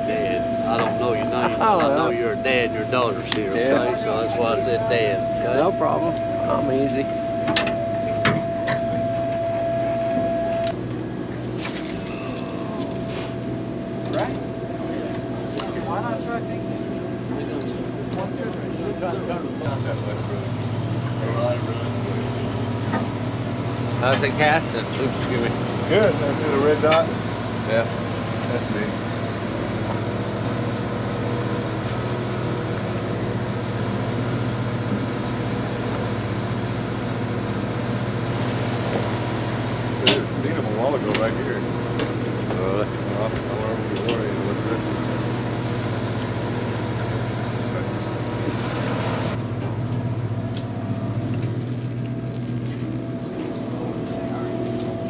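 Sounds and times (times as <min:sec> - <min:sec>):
boat machinery drone: 0:00.0 - 0:55.0
thin steady whine: 0:00.0 - 0:55.0.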